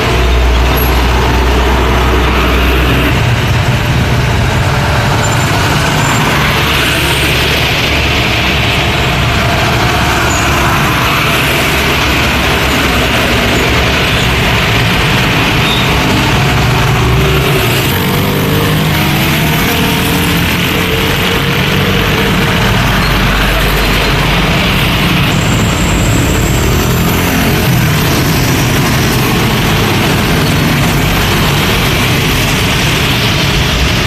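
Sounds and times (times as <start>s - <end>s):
road traffic driving past: 0.0s - 34.0s.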